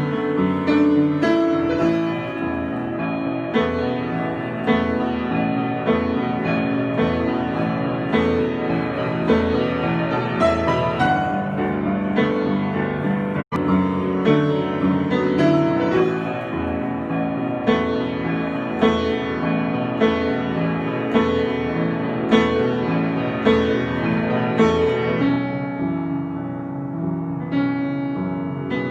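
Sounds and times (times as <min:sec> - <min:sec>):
piano improvisation: 0:00.0 - 0:28.9.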